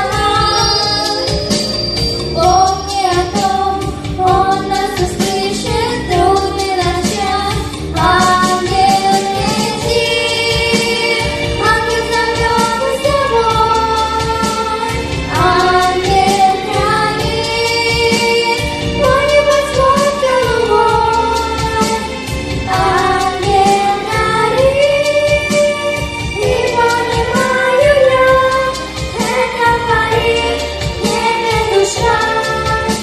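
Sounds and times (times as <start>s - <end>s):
woman singing over a steady beat: 0.0s - 1.4s, 2.3s - 33.0s.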